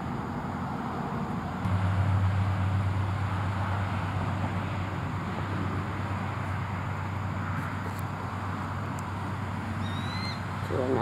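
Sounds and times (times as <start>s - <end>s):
low engine hum: 0.0s - 11.0s
road noise: 0.0s - 11.0s
wind: 0.0s - 11.0s.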